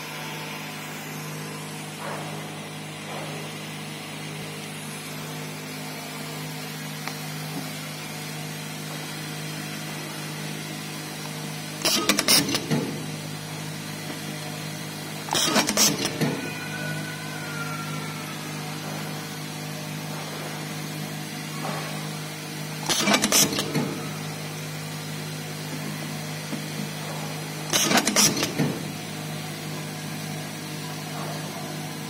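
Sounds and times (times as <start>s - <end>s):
machine humming: 0.0s - 31.1s.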